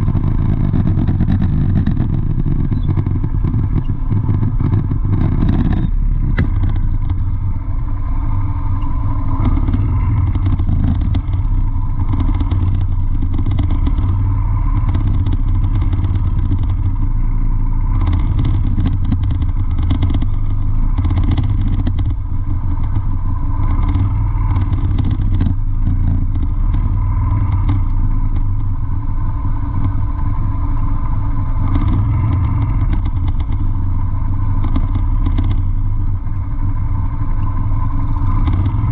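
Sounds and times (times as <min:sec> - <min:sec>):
light clatter: 0:00.0 - 0:38.9
vehicle engine running: 0:00.0 - 0:38.9.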